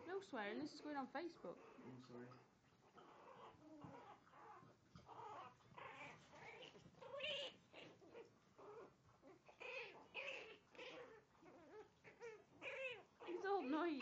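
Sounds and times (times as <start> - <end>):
puppies whining and yelping: 2.7 - 14.0.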